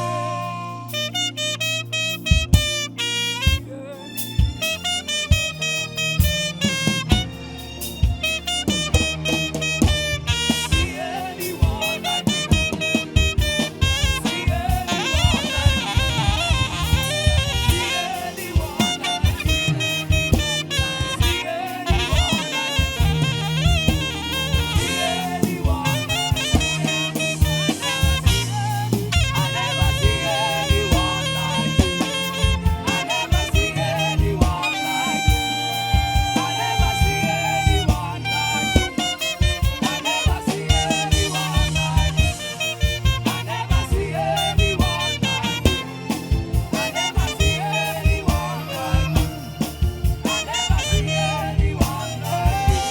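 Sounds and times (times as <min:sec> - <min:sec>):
live band with drums and bass: 0:00.0 - 0:52.9
saxophone melody: 0:00.0 - 0:52.9.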